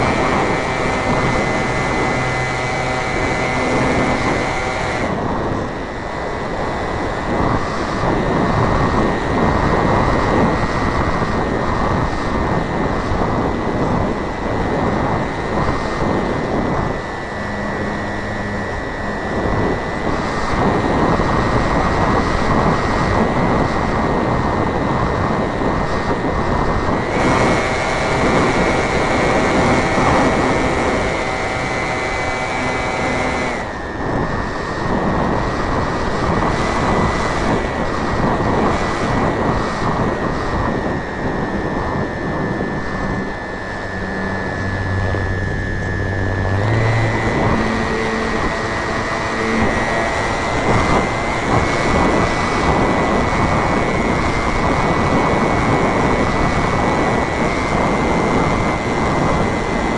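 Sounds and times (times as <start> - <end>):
model airplane motor whine: 0.0 - 59.9
wind rushing on microphone: 0.0 - 59.9.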